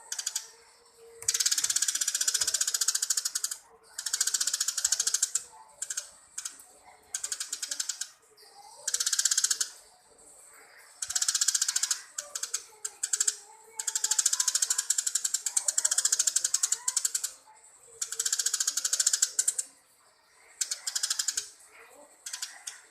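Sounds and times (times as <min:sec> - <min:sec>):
sparrows chattering: 0:00.0 - 0:22.9.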